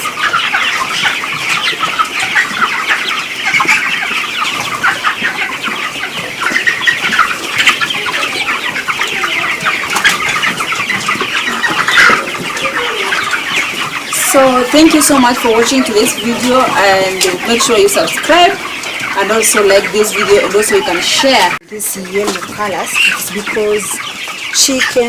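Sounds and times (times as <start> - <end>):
chicks peeping and cheeping: 0.0 - 25.0.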